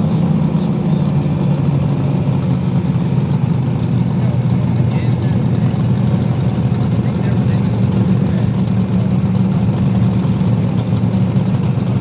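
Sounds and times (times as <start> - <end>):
dragster engine idling: 0.0 - 12.0.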